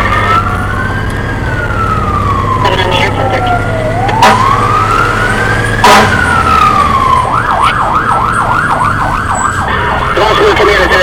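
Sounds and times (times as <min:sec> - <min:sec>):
siren wailing and yelping: 0:00.0 - 0:11.0
truck engine rumble: 0:00.0 - 0:11.0.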